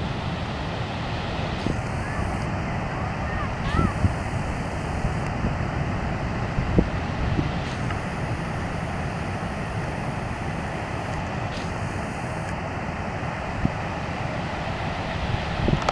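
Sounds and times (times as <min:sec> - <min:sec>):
ocean surf: 0:00.0 - 0:15.9
wind rumbling on microphone: 0:00.0 - 0:15.9.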